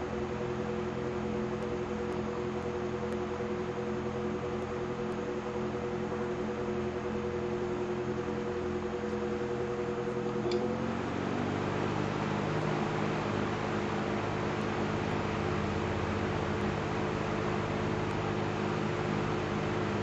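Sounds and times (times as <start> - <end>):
electric fan motor hum: 0.0 - 20.0
fan click: 0.0 - 20.0.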